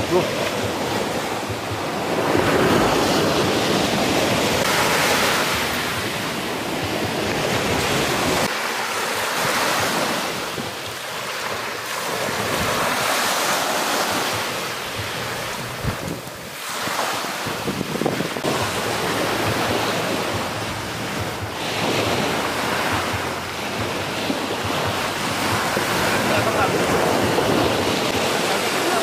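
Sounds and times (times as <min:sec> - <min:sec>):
wind buffeting microphone: 0:00.0 - 0:08.5, 0:09.4 - 0:29.0
surf washing onto beach: 0:00.0 - 0:29.0.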